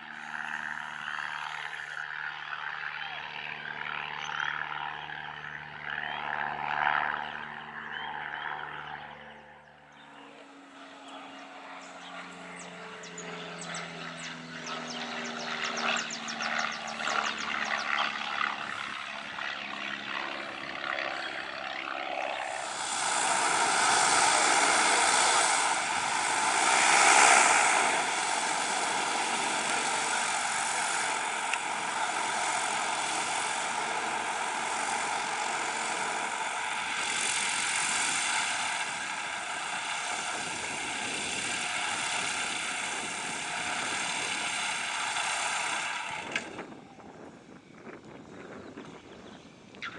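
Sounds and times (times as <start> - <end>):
propeller plane engine running: 0.0 - 49.9.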